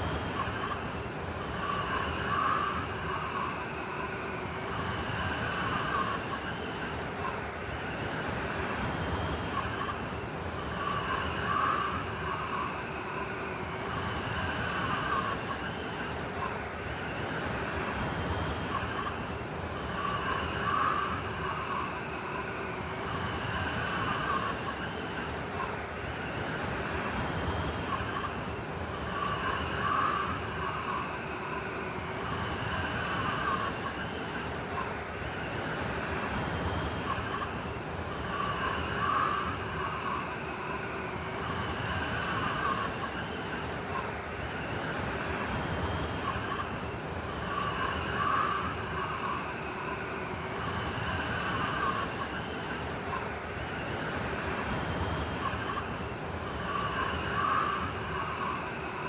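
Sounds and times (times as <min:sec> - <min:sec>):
blizzard wind howling: 0:00.0 - 0:59.0.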